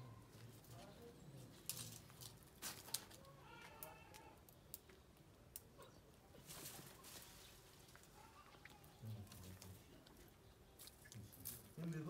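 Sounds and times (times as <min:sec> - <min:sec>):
rustle of plant leaves: 0:00.3 - 0:04.8, 0:06.3 - 0:12.0.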